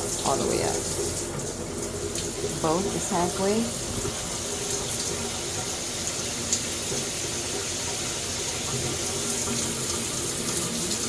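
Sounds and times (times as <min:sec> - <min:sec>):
shower water spraying: 0:00.0 - 0:11.0.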